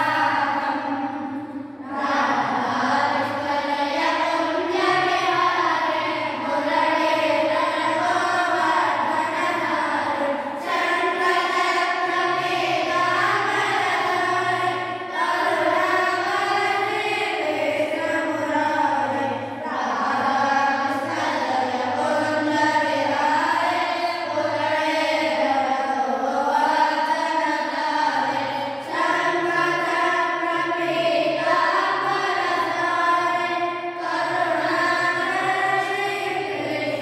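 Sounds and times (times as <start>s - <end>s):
boys chanting a hymn in unison: 0.0s - 37.0s.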